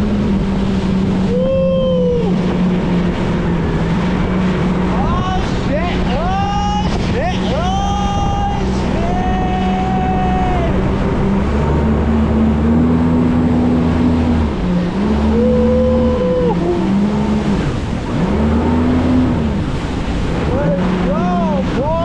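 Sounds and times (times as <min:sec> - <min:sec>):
jet ski engine revving: 0:00.0 - 0:22.0
wind and water rushing: 0:00.0 - 0:22.0.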